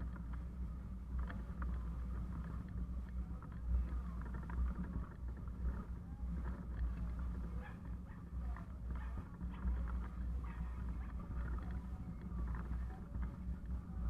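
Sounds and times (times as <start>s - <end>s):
rolling road noise: 0.0s - 14.0s.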